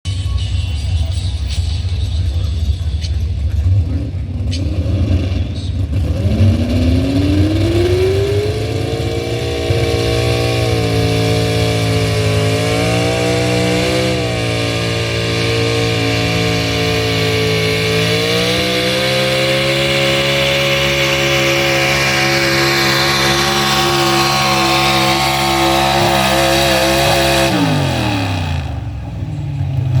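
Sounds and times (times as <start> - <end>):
truck engine revving: 0.1 - 30.0.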